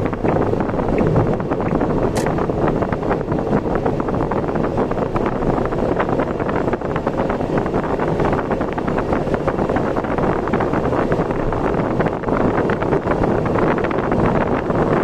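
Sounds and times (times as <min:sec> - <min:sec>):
vehicle road and engine noise: 0:00.0 - 0:15.0
wind buffeting microphone: 0:00.0 - 0:15.0.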